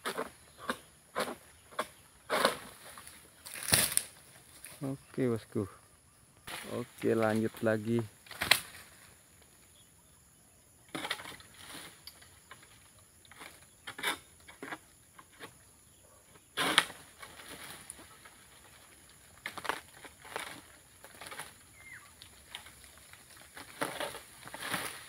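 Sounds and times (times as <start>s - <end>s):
fronds cracking and rustling: 1.2s - 5.3s, 6.4s - 9.7s, 10.9s - 15.5s, 16.6s - 25.0s.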